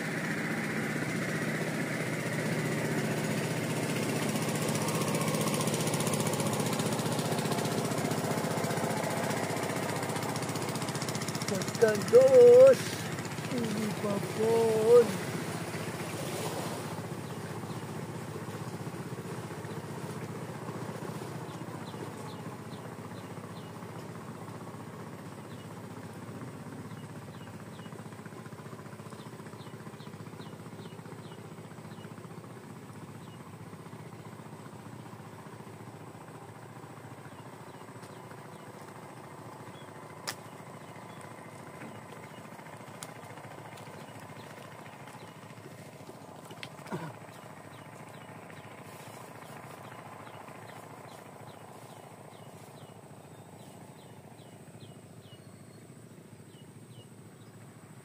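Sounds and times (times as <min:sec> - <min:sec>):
boat engine drone: 0:00.0 - 0:58.0.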